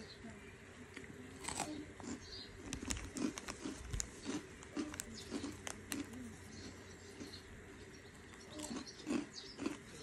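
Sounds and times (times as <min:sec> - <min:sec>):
crunchy snack being chewed: 0:00.9 - 0:07.4, 0:08.2 - 0:10.0.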